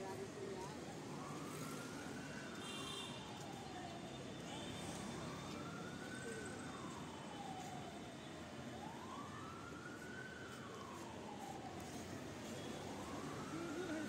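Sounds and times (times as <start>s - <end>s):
emergency siren wailing: 0.0s - 14.0s
street traffic: 0.0s - 14.0s.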